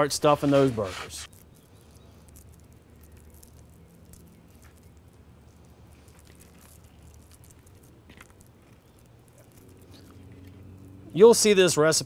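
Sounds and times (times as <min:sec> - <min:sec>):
wet squishing of ground meat: 0:01.3 - 0:11.0.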